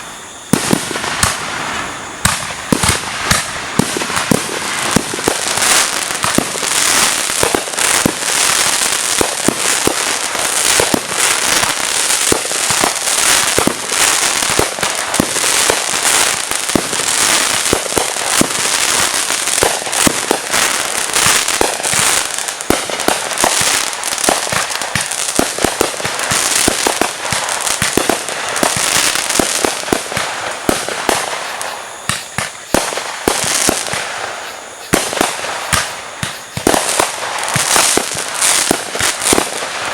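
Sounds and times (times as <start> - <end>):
fireworks cracking and popping: 0.0 - 39.9
sharp firework bangs: 0.0 - 39.9.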